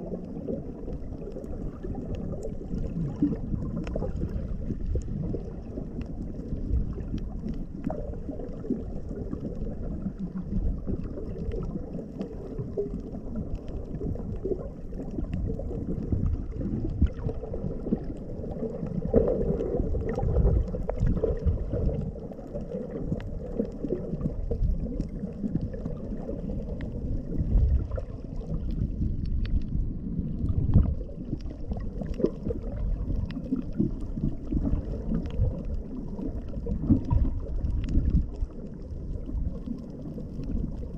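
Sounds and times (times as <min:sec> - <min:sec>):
faint ticks: 0:00.0 - 0:40.9
underwater water rumbling: 0:00.0 - 0:40.9.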